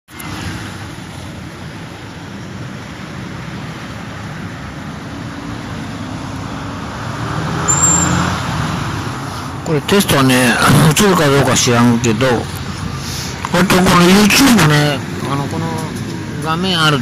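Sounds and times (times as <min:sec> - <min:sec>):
passing cars rumbling: 0:00.1 - 0:17.0.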